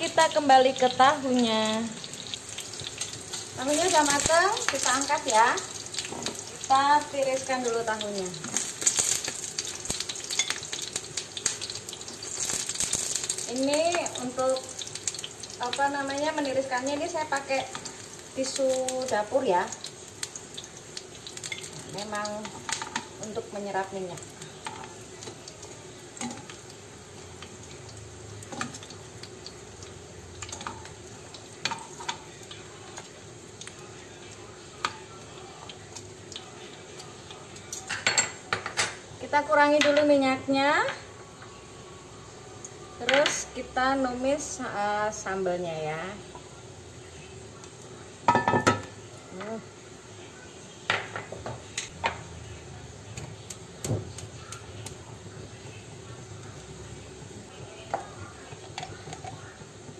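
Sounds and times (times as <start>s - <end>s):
oil sizzling in a frying pan: 0.0s - 59.9s.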